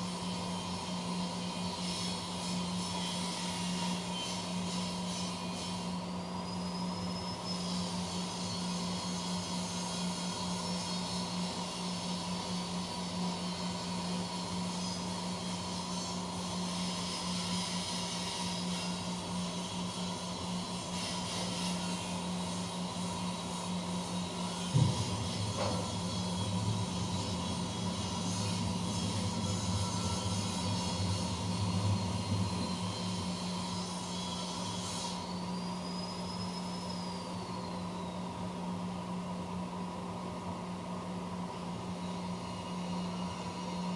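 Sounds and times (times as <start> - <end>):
machine humming with hiss: 0.0 - 43.9.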